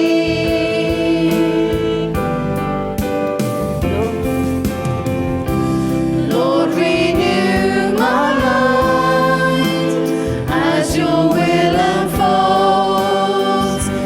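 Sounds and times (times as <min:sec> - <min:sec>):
voices singing worship song: 0:00.0 - 0:02.6, 0:03.8 - 0:14.0
instrumental backing: 0:00.0 - 0:14.0.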